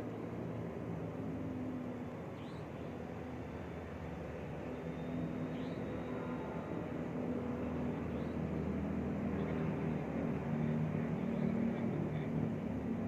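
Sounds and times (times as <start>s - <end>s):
low mechanical drone: 0.0s - 13.0s.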